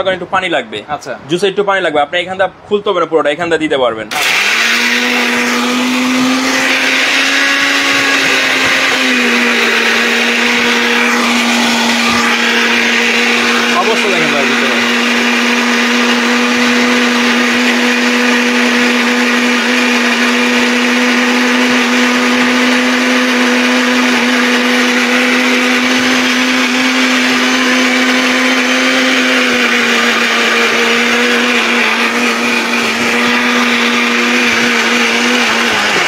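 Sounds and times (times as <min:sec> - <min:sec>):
mixer grinder motor running: 0:04.1 - 0:36.0.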